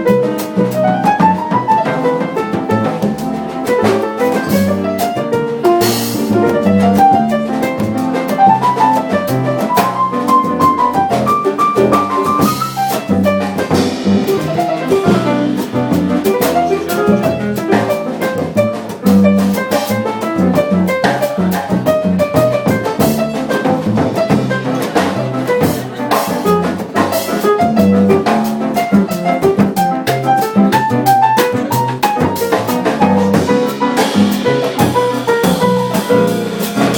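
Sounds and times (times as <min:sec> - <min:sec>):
drum kit and percussion: 0:00.0 - 0:36.9
latin jazz band playing: 0:00.0 - 0:36.9.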